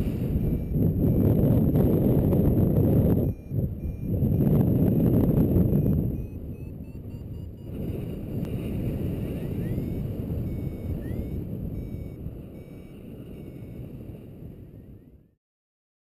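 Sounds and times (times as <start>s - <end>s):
wind buffeting microphone: 0.0s - 15.2s
variometer beeping: 0.0s - 15.3s.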